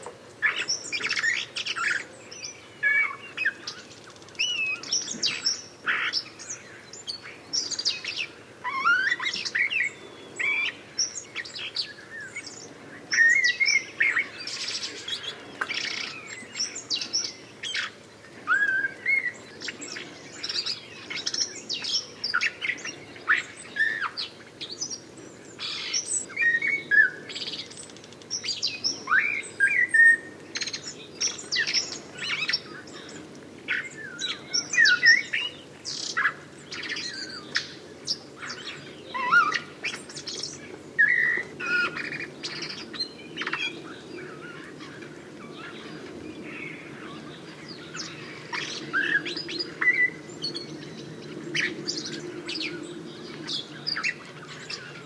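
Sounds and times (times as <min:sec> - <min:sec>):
blackbird singing: 0:00.4 - 0:55.0.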